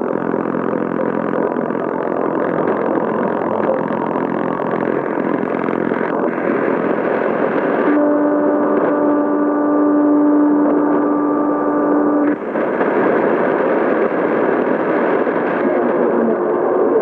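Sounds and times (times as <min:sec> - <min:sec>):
faint higher radio tones: 0:00.0 - 0:17.0
radio static hiss: 0:00.0 - 0:17.0
steady low radio tone: 0:00.0 - 0:17.0.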